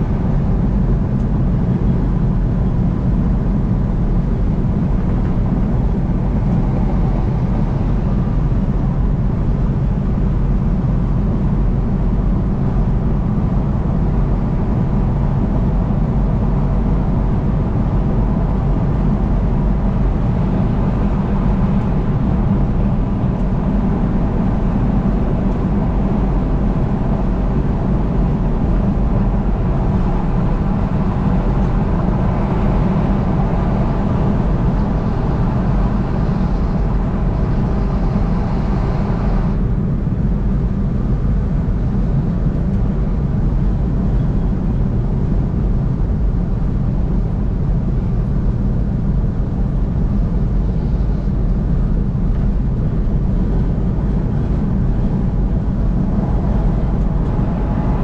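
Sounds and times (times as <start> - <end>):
tyres and engine rumble: 0.0 - 58.0.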